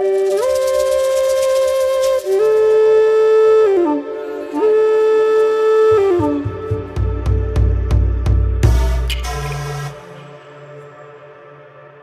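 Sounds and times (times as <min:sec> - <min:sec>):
flute-like wind instrument: 0:00.0 - 0:12.0.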